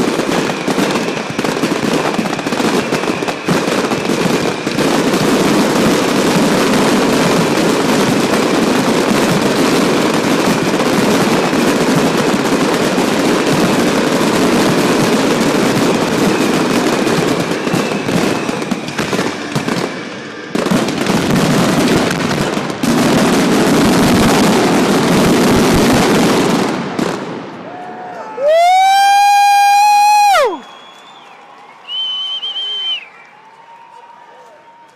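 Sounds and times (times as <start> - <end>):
fireworks crackling bursts: 0.0 - 34.9.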